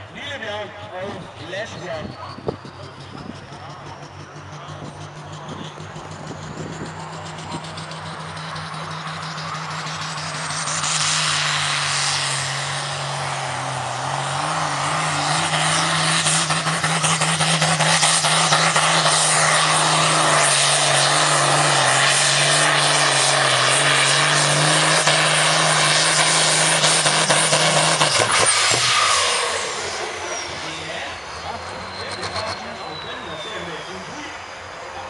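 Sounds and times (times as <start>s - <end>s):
tractor diesel engine under load: 0.0s - 35.0s.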